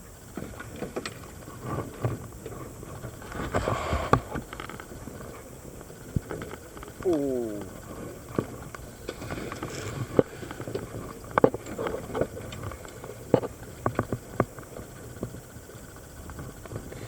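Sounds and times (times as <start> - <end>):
underwater rumble of water and bubbles: 0.0 - 17.0.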